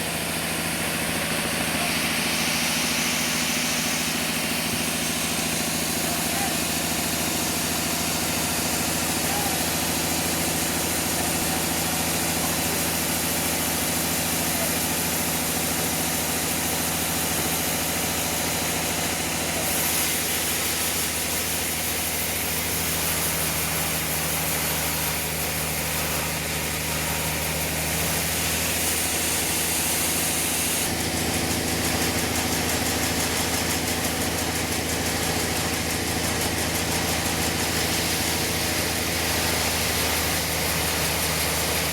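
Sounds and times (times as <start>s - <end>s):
sawmill machinery engine running: 0.0s - 41.9s.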